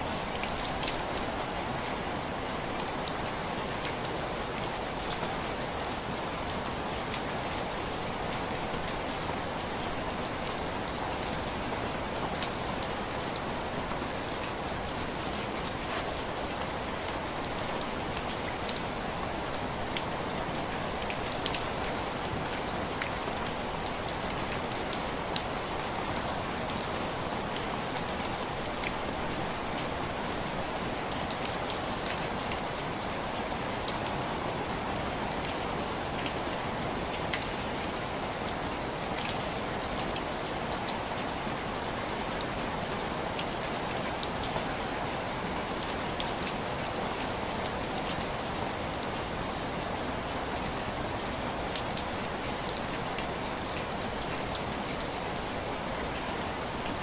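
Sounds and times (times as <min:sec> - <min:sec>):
rain on window glass: 0:00.0 - 0:57.0.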